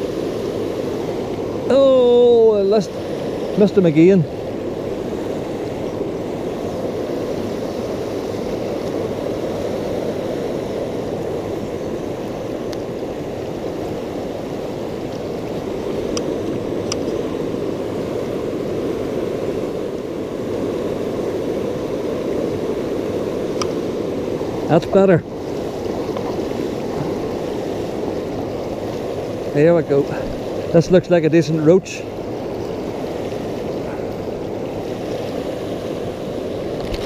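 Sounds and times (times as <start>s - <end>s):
water rushing over weir: 0.0s - 37.0s.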